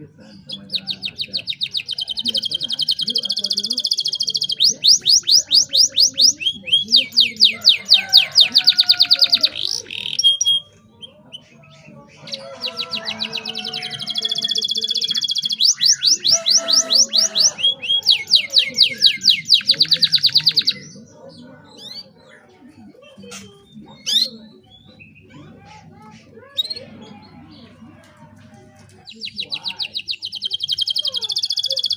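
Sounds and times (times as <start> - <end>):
canary singing trills: 0.0 - 27.8, 29.0 - 31.9.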